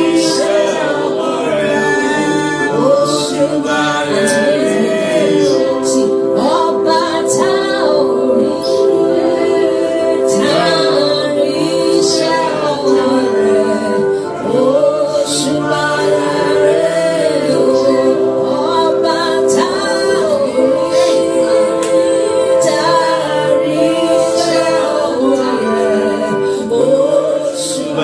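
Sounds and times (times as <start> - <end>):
voices singing worship music: 0.0 - 28.0.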